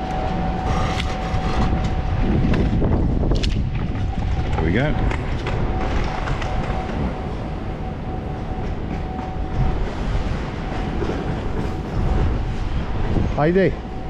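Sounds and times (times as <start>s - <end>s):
thin steady whine: 0.0s - 14.0s
train rumble: 0.0s - 14.0s.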